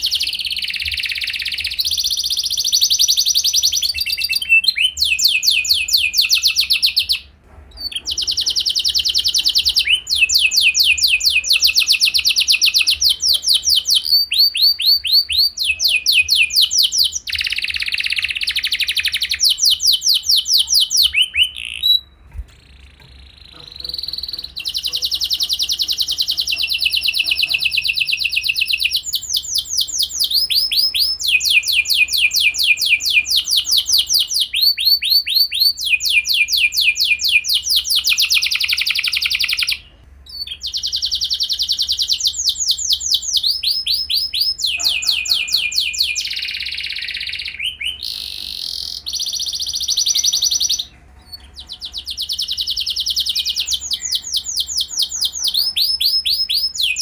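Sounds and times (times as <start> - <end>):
canary singing rapid trills: 0.0 - 57.0.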